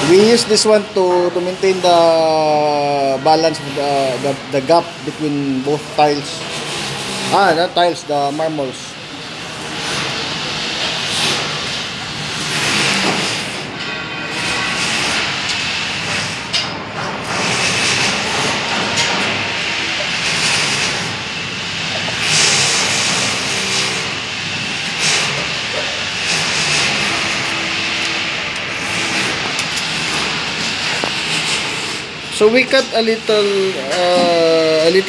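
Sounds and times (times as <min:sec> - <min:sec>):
loud rushing noise: 0:00.0 - 0:35.0.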